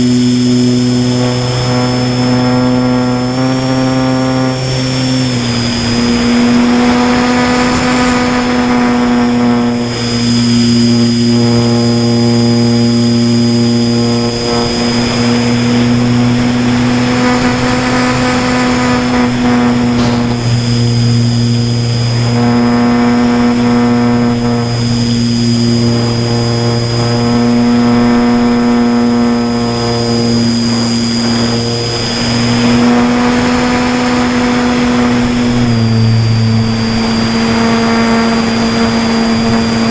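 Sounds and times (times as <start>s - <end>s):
model aeroplane motor droning: 0.0s - 39.9s
rushing air: 0.0s - 39.9s.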